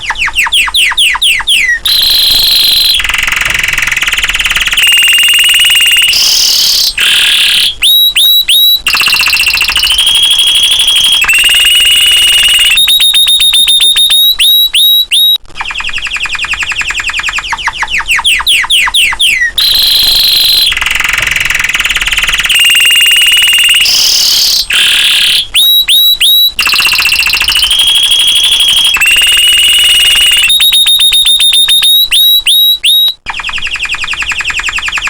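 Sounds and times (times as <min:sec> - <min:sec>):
canary singing: 0:00.0 - 0:35.0.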